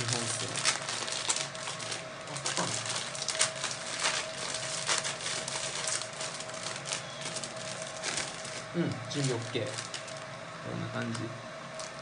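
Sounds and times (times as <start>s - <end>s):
plastic bag crinkling: 0.0s - 10.4s, 11.0s - 12.0s.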